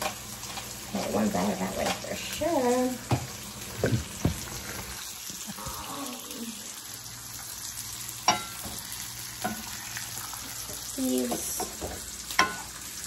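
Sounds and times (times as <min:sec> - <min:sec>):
bacon and eggs sizzling: 0:00.0 - 0:13.0.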